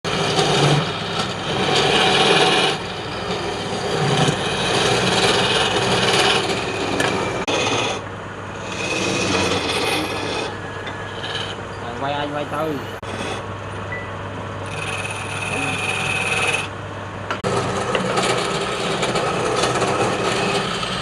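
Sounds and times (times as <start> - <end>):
tool scraping spinning wood: 0.1 - 13.5, 14.6 - 16.7, 17.3 - 21.0
lathe humming: 0.1 - 13.6, 14.4 - 21.0.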